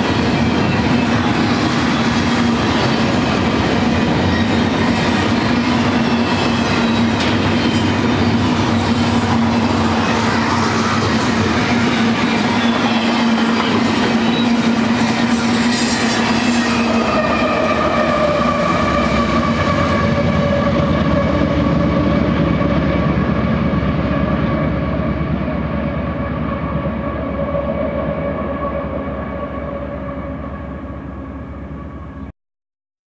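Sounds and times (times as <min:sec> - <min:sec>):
freight train rumbling over rails: 0:00.0 - 0:32.3.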